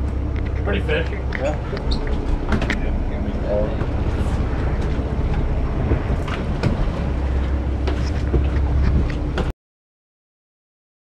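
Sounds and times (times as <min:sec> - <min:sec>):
boat engine idling: 0:00.0 - 0:09.5.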